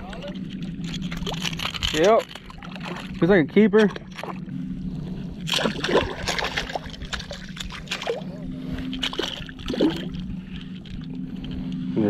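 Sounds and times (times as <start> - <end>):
water sloshing and dripping: 0.4 - 4.5, 5.4 - 11.2.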